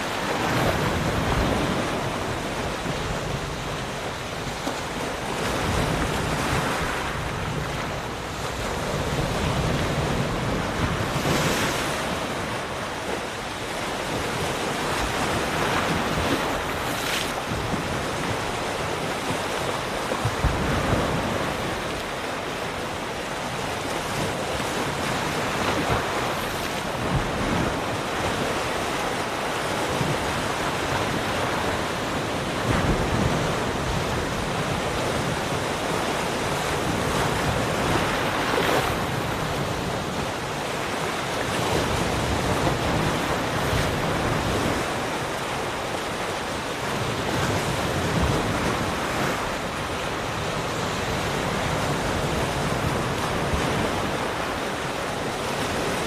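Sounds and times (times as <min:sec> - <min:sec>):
waves breaking: 0:00.0 - 0:56.0
wind buffeting microphone: 0:00.0 - 0:56.0.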